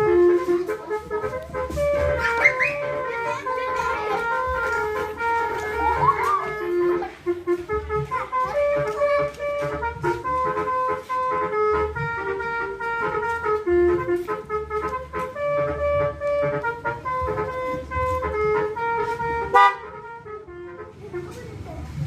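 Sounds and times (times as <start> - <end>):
electric melody horn playing a tune: 0.0 - 21.4
low engine rumble: 0.0 - 22.0.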